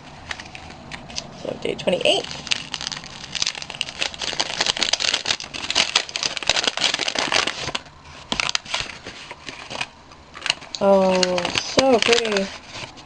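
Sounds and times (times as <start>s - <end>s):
wrapping paper crinkling: 0.0s - 13.0s.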